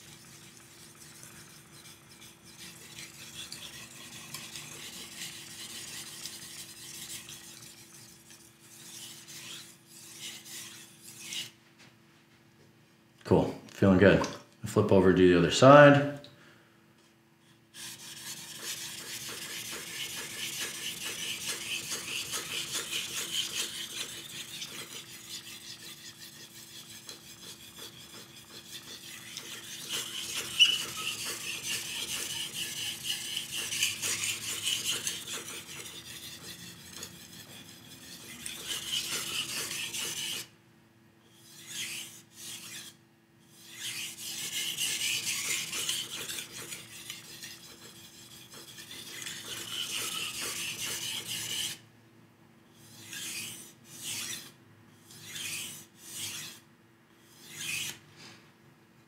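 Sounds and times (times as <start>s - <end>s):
knife scraping on whetstone: 0.0s - 11.6s, 17.7s - 40.5s, 41.3s - 51.8s, 52.7s - 58.0s.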